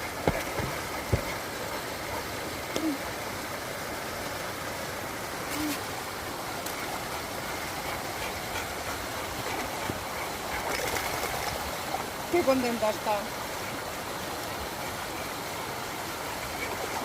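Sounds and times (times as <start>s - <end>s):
river water rushing over cascade: 0.0s - 17.0s.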